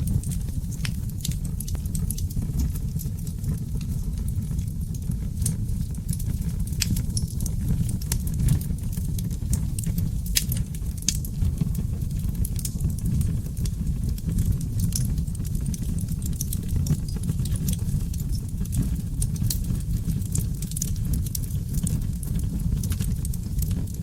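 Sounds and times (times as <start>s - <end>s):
logs burning in a fireplace: 0.0s - 24.0s.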